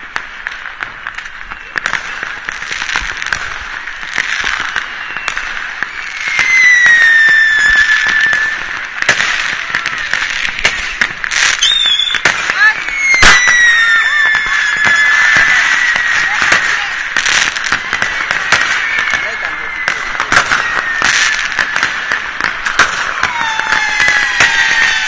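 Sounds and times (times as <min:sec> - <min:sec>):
distant fireworks popping and banging: 0:00.0 - 0:25.0
firework whistle sliding down: 0:04.0 - 0:25.0.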